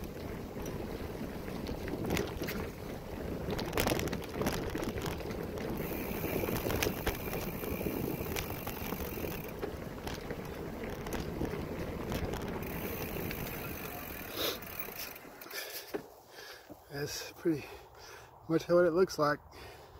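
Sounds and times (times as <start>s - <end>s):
bicycle knocks and rattles: 0.0s - 16.2s
bicycle tyre rumble: 0.0s - 18.4s.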